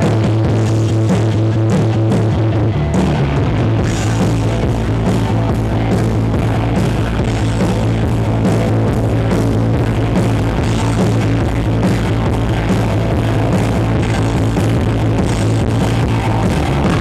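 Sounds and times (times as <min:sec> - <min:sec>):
rock music over pa system: 0:00.0 - 0:17.0.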